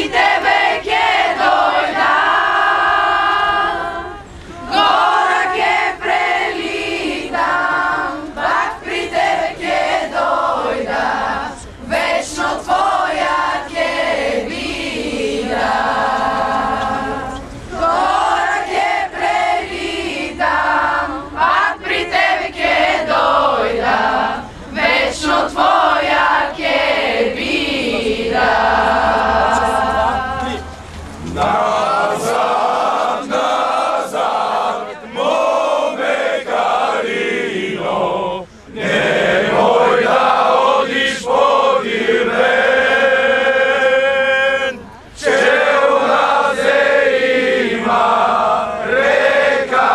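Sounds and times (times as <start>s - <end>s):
group singing folk song in unison: 0.0s - 49.9s.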